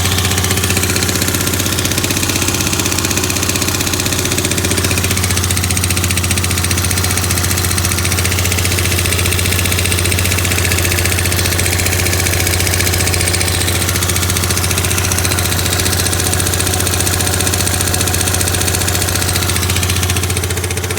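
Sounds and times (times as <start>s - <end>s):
scooter engine ticking: 0.0s - 20.9s.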